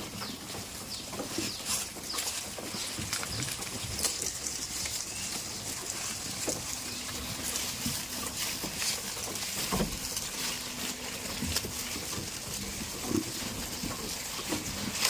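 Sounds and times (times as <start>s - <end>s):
small clicks and rustles: 0.2s - 15.0s.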